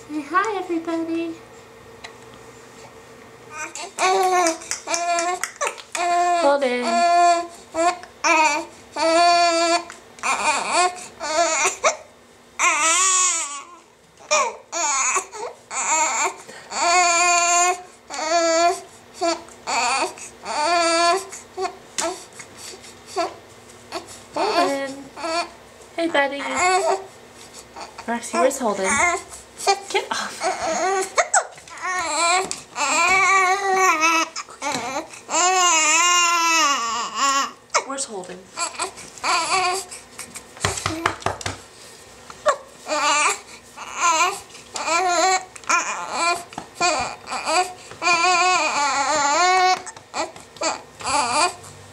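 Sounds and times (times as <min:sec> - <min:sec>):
baby crying: 0:03.5 - 0:22.3, 0:23.1 - 0:25.6, 0:26.4 - 0:27.1, 0:27.8 - 0:37.9, 0:38.6 - 0:40.0, 0:42.4 - 0:51.7.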